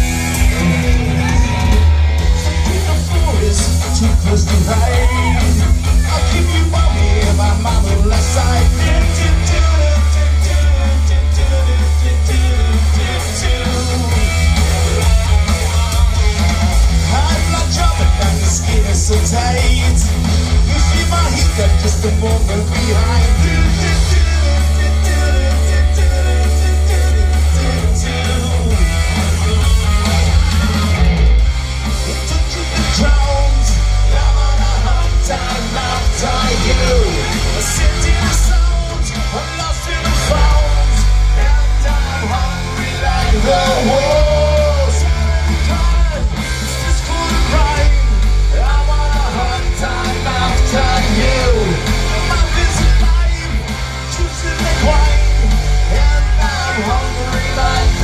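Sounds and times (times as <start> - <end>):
bass guitar line: 0.0 - 58.0
drums: 0.0 - 58.0
electric guitars: 0.0 - 58.0
man singing lead vocals: 0.0 - 58.0.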